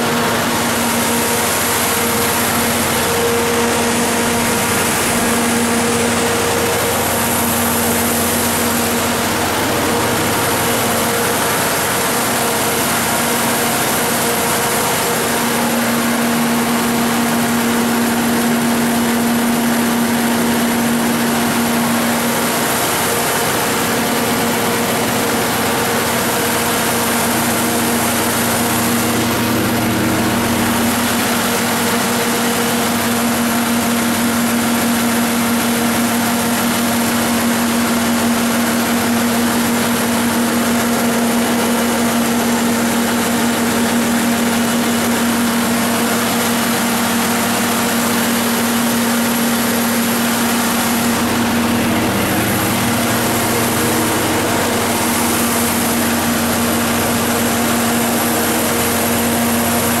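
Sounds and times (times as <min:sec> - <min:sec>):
generator engine running: 0:00.0 - 1:00.0.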